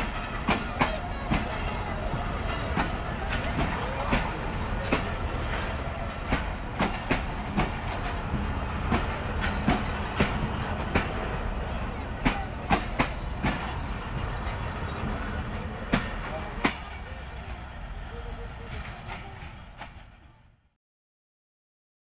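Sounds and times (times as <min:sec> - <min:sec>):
train wheels clacking on rail joints: 0:00.0 - 0:20.6
low train rumble: 0:00.0 - 0:20.8.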